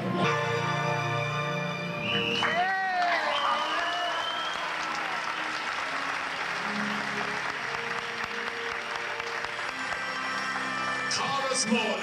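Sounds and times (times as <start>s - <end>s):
audience applauding: 2.0s - 12.0s.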